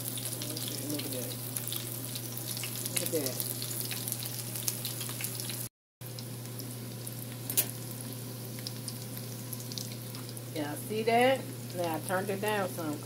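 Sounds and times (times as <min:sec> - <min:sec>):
shrimp sizzling in oil: 0:00.0 - 0:13.0.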